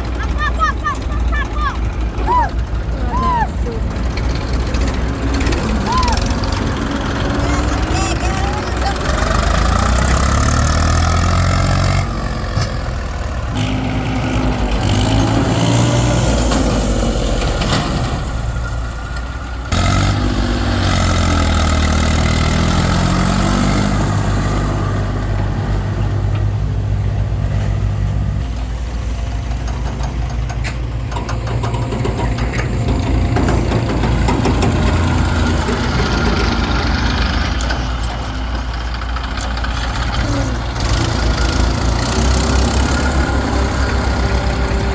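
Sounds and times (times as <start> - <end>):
diesel engines idling: 0.0 - 44.9.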